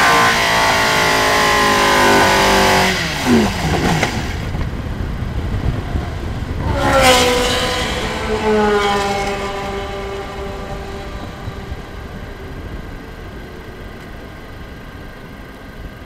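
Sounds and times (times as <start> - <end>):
racing car engine: 0.0 - 16.0
wind noise: 0.0 - 16.0.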